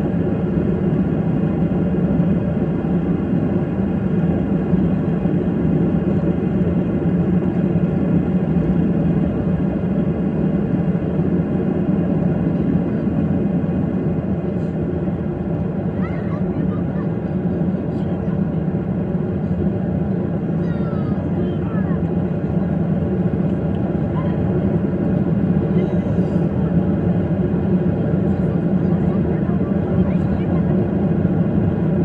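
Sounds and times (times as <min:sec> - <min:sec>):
airplane engines rumbling: 0:00.0 - 0:32.0.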